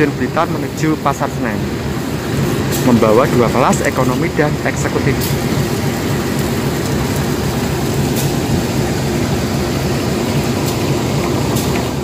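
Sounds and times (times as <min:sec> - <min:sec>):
train diesel engine droning: 0:00.0 - 0:12.0.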